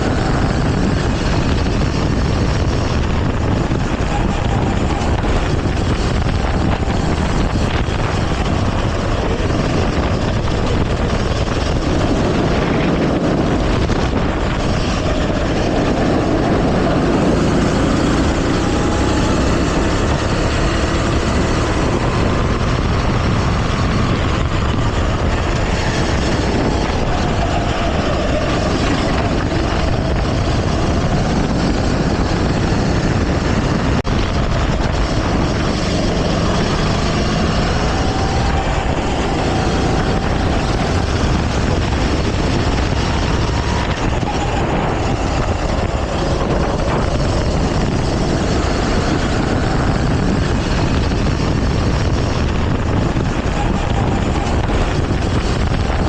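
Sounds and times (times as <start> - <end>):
go-kart engine racing: 0.0 - 56.0.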